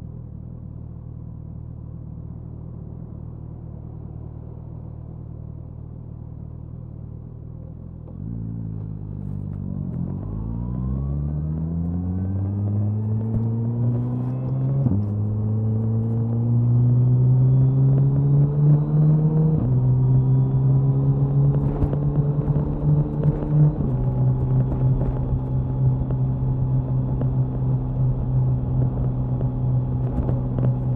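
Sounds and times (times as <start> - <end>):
motorcycle engine and exhaust: 0.0 - 30.9.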